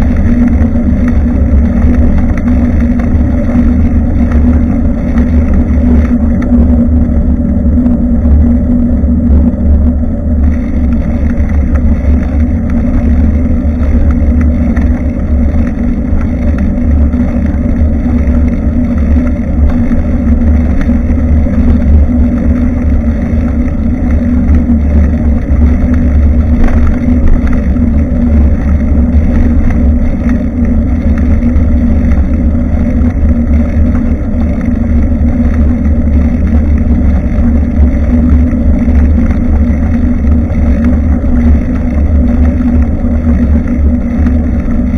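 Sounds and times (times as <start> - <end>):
constant hum: 0.0 - 44.9
wind buffeting microphone: 0.0 - 44.9.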